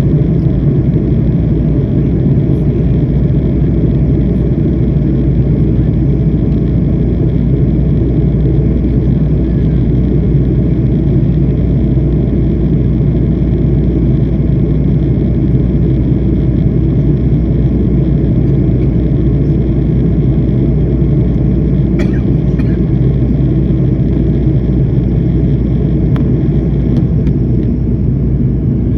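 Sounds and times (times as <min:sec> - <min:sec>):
jet engines droning: 0:00.0 - 0:28.9.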